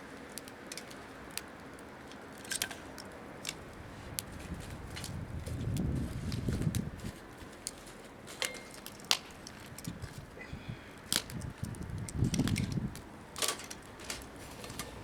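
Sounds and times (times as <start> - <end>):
campfire crackling: 0.0 - 15.0
sharp fire pops: 2.4 - 10.4, 11.0 - 15.0.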